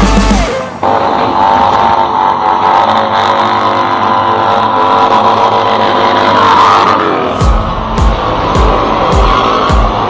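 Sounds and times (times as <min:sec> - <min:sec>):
motorcycle engine high revs: 0:00.0 - 0:10.0.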